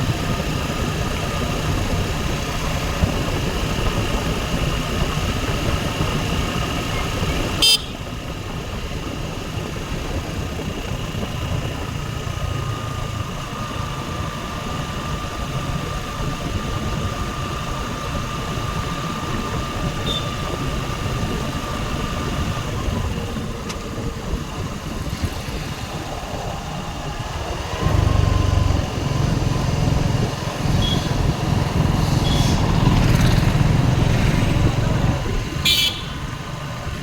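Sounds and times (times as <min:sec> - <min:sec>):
motorcycle engine drone: 0:00.0 - 0:37.0
road and wind noise: 0:00.0 - 0:37.0.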